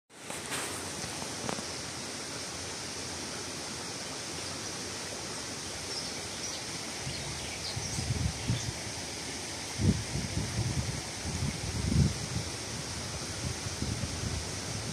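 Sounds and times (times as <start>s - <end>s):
stream flowing: 0.1s - 14.9s.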